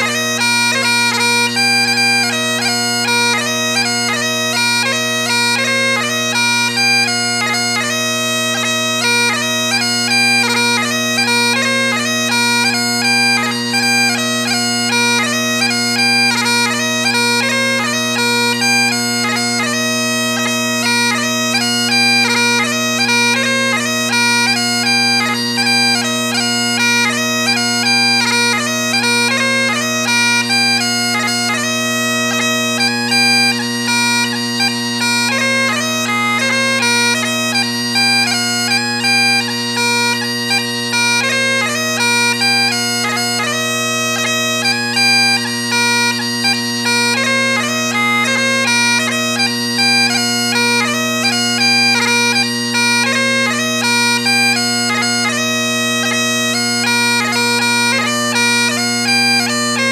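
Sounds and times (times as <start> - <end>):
bagpipes playing a quick tune: 0.0 - 59.9.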